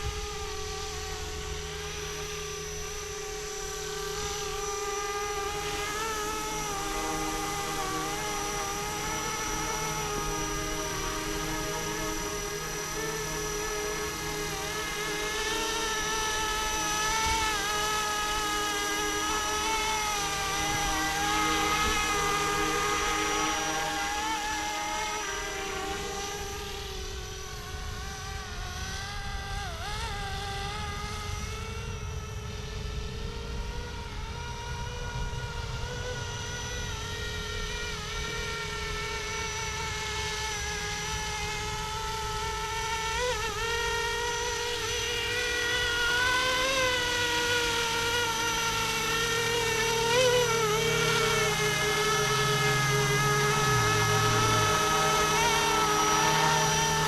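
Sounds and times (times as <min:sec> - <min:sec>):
rc helicopter motor whine: 0:00.0 - 0:57.0.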